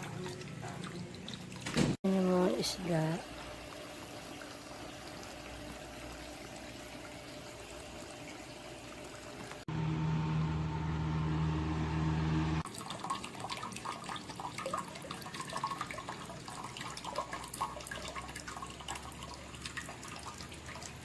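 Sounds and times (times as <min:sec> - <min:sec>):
water splashing and trickling: 0:00.0 - 0:09.7, 0:12.6 - 0:21.0.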